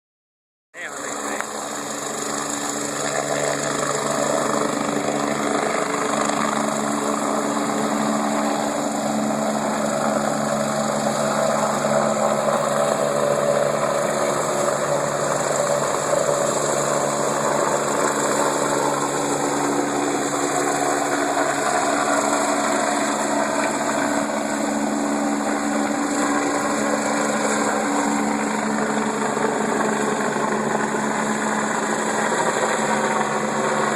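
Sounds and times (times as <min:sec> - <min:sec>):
helicopter turbine engine running: 0:00.8 - 0:33.9.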